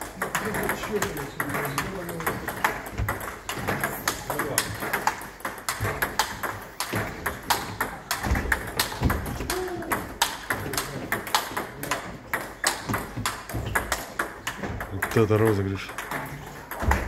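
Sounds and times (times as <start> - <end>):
table tennis balls clicking: 0.0 - 17.0.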